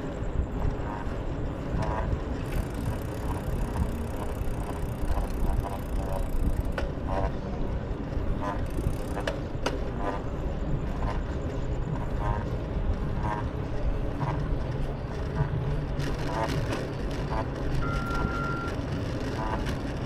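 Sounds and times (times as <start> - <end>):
wind on microphone: 0.0 - 18.0
bicycle rolling noise: 0.0 - 20.0.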